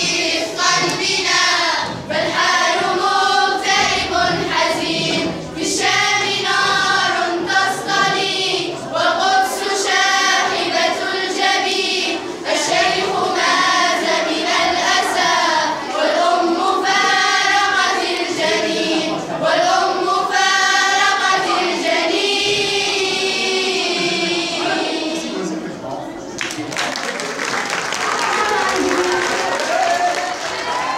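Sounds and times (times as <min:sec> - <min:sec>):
girls choir singing: 0:00.0 - 0:26.0.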